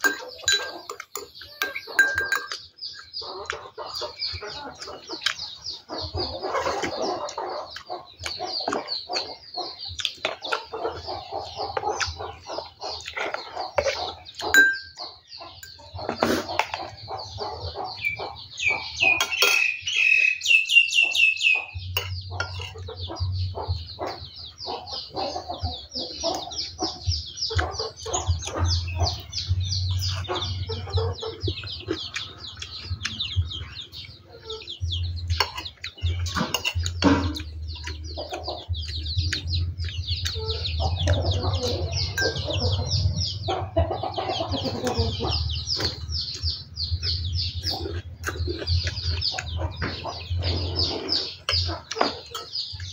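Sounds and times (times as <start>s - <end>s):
birds chirping: 0.0s - 52.9s
chickens clucking: 0.0s - 52.9s.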